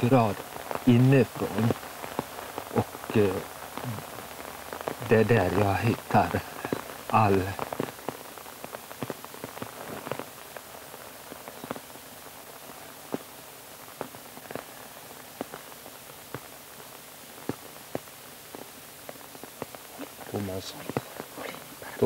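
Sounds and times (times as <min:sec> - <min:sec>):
rain drip taps on umbrellas: 0:00.0 - 0:22.0
steady rain hiss: 0:00.0 - 0:22.0.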